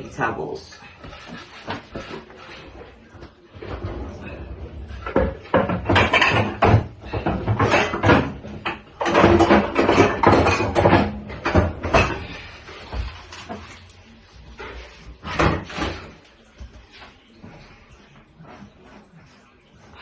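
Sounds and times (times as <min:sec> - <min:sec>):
kitchen utensils and bowls clattering: 0:01.0 - 0:20.0.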